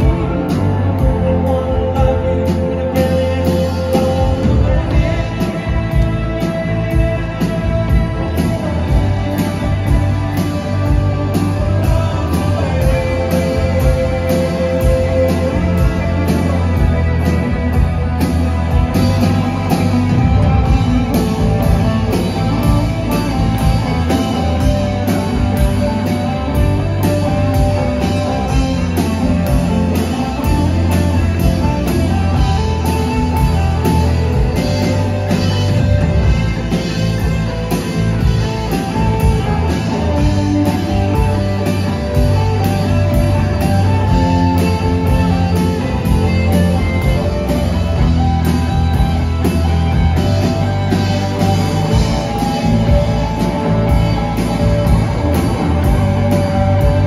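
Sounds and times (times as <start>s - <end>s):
drum kit: 0.0s - 57.0s
electric bass: 0.0s - 57.0s
electric guitars: 0.0s - 57.0s.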